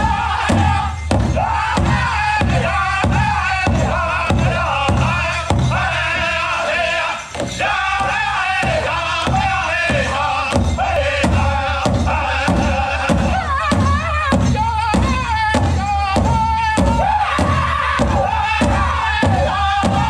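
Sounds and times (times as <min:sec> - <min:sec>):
big drum beats: 0:00.0 - 0:20.0
men singing high wavering voices: 0:00.0 - 0:20.0.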